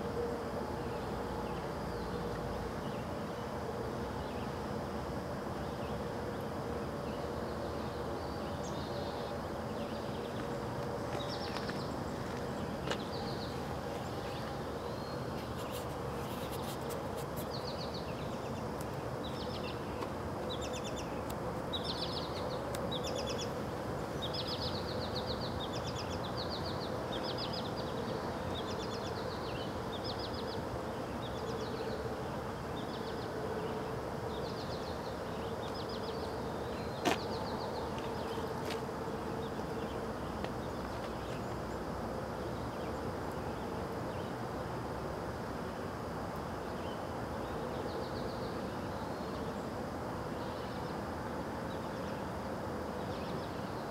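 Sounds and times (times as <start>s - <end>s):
steady background hum: 0.0s - 53.9s.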